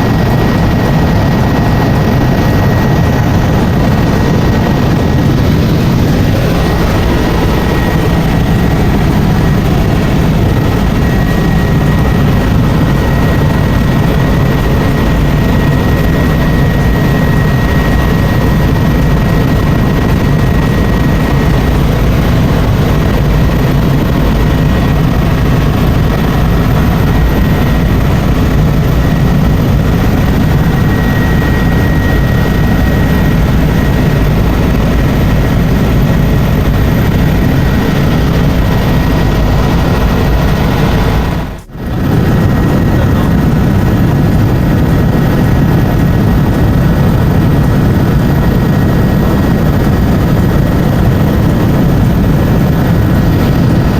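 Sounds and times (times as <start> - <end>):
helicopter rotor and engine: 0.0 - 53.9
high whine: 0.0 - 53.9.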